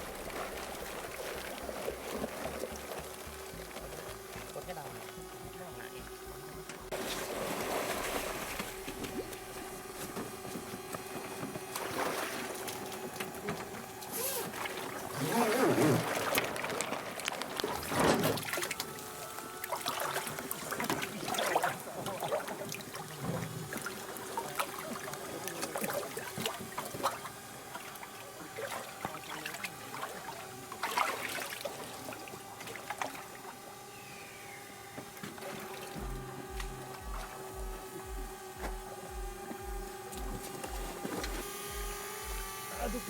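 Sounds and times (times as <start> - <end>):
water splashing and trickling: 0.0 - 33.9, 34.6 - 43.0
faint steady hum: 0.0 - 43.0.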